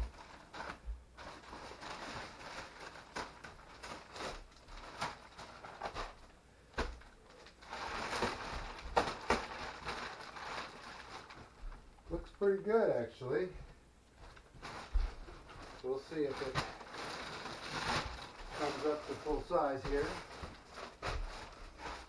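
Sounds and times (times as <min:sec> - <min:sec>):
sharp plastic crackles: 0:00.0 - 0:12.4, 0:14.2 - 0:22.0
plastic wrapping crinkling: 0:00.0 - 0:12.6, 0:14.2 - 0:22.0.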